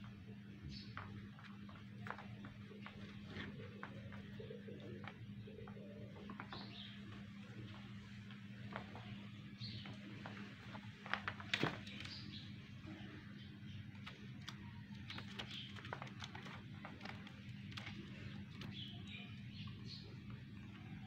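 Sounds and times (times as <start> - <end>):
kittens scuffling: 0.0 - 12.8, 13.6 - 19.1
steady low hum: 0.0 - 21.0.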